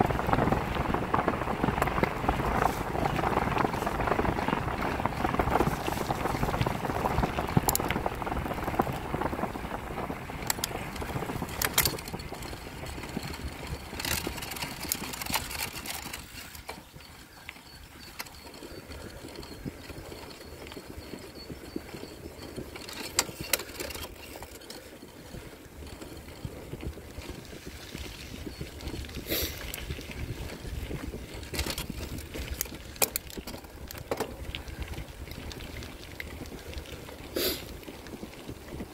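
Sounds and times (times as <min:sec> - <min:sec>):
bicycle tyres rolling on gravel: 0:00.0 - 0:38.9
stones and bike parts rattling: 0:00.0 - 0:38.9.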